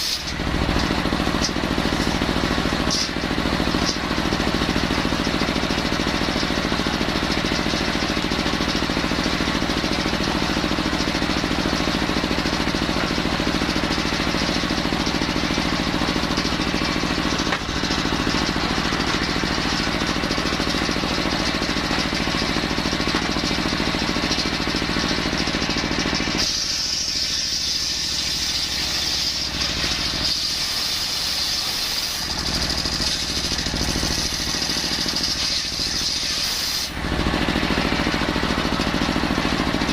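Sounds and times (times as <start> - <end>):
circular saw engine running: 0.0 - 39.9.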